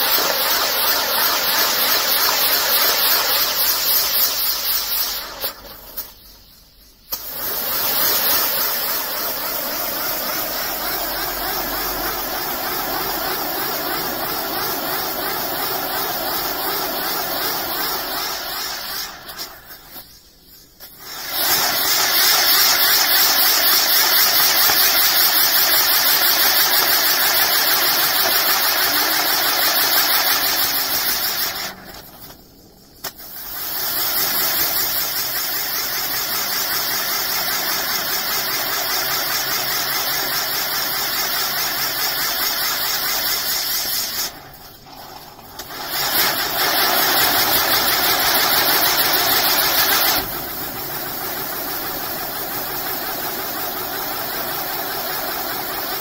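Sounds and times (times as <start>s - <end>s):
firework fountain hissing: 0.0s - 56.0s.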